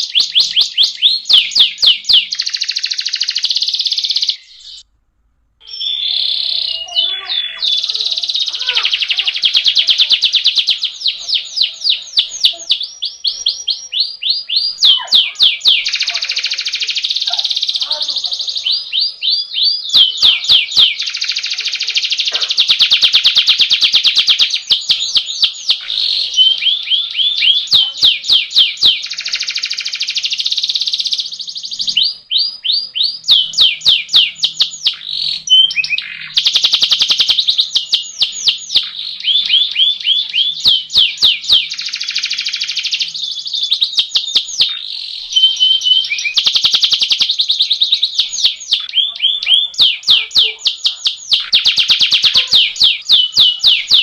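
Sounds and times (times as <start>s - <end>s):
canary singing trills: 0.0s - 4.9s, 5.6s - 54.0s.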